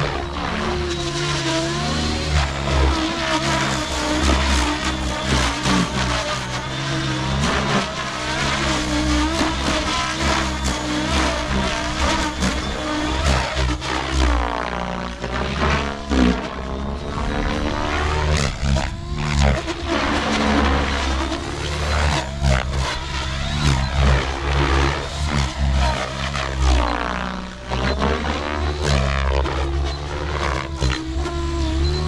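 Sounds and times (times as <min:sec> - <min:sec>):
helicopter passing whoosh: 0:00.0 - 0:32.0
rc helicopter rotor drone: 0:00.0 - 0:32.0.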